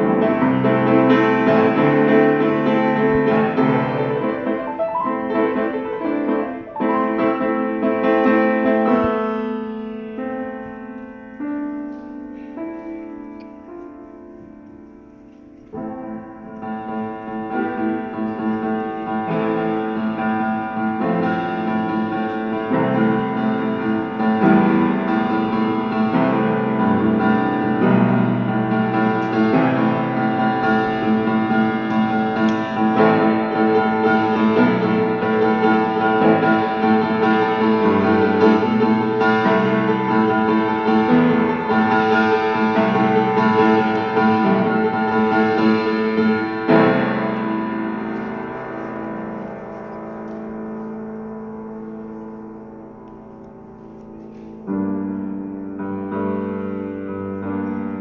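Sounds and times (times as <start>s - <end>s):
slow piano chords: 0.0s - 58.0s.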